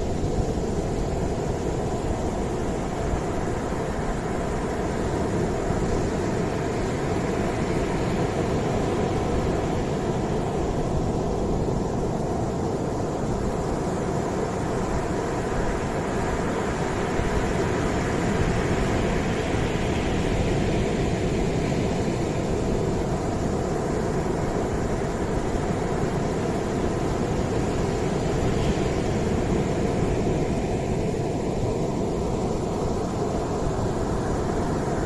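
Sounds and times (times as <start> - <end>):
ocean surf on a beach: 0.0 - 35.0.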